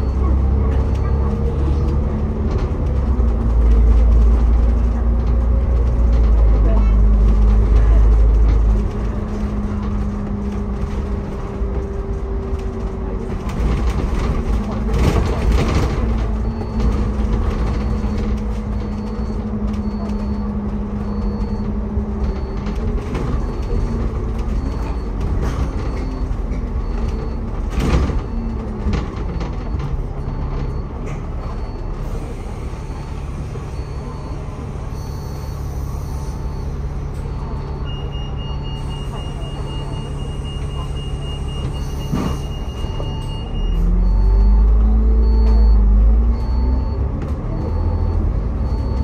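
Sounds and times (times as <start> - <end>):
bus engine drone: 0.0 - 49.0.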